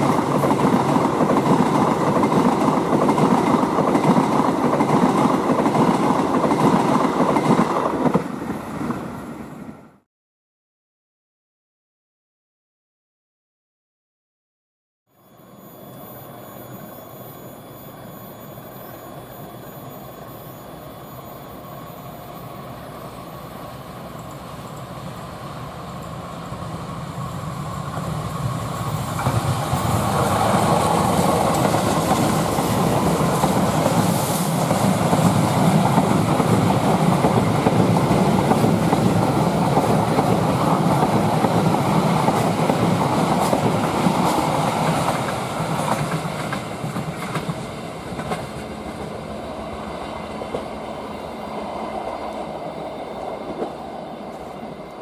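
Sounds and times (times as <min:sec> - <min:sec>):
train approaching: 0:00.0 - 0:10.1, 0:15.1 - 0:55.0.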